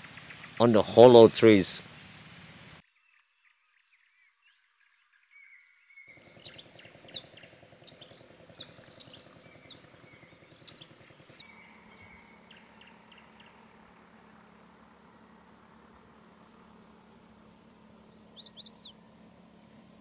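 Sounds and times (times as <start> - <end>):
forest birds whistling: 2.9 - 20.0.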